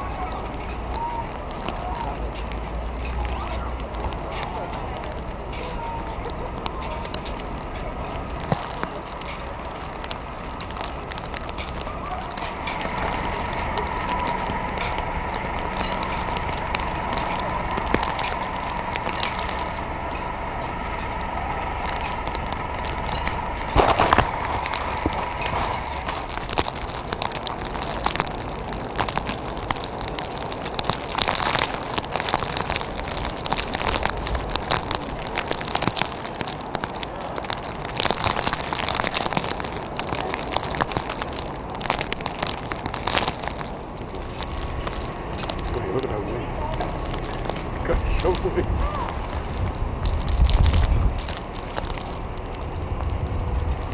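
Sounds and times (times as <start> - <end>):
blizzard wind buffeting microphone: 0.0 - 53.9.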